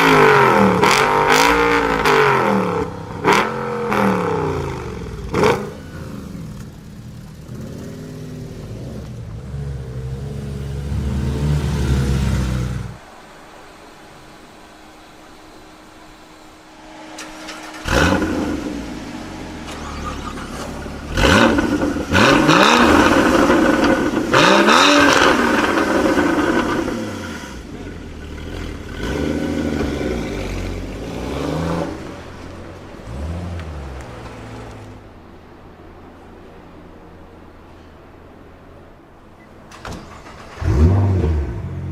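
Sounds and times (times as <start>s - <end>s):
sports car engine revving: 0.0s - 13.1s, 16.3s - 35.1s, 40.2s - 41.9s.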